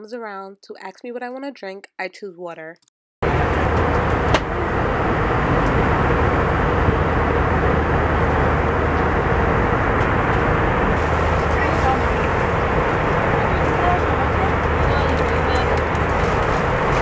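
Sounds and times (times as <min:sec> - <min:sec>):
airliner engines roaring: 0:03.2 - 0:17.0
low hum: 0:03.2 - 0:17.0.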